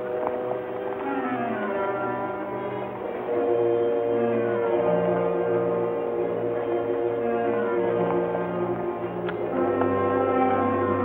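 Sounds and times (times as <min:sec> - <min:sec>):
orchestral brass chords: 0:00.0 - 0:11.0.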